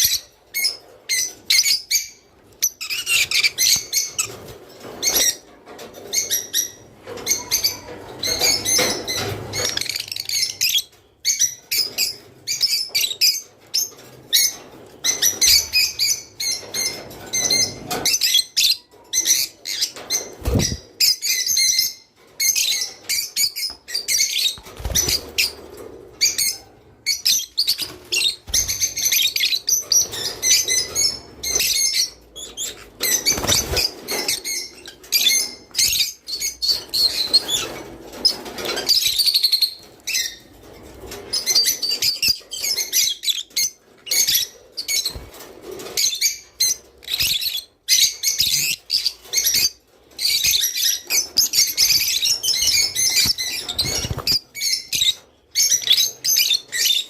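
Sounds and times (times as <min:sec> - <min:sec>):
lovebirds chirping and chattering: 0:00.0 - 0:57.0.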